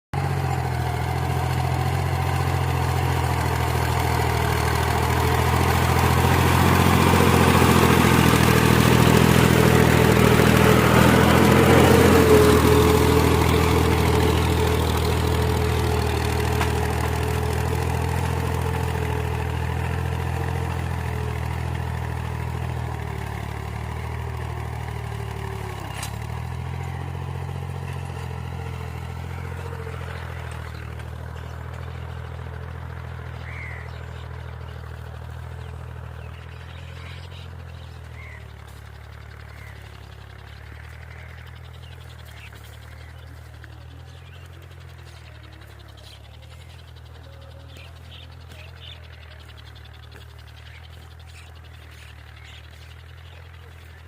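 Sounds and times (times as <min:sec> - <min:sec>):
tractor engine running: 0:00.1 - 0:54.0.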